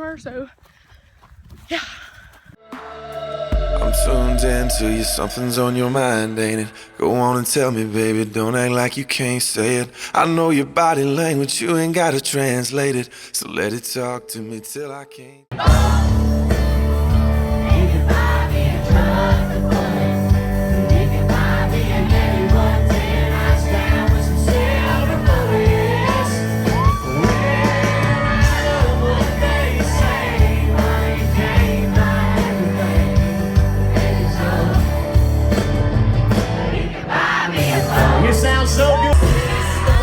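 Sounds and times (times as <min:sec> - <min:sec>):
country-pop song with vocals: 0:01.7 - 0:40.0.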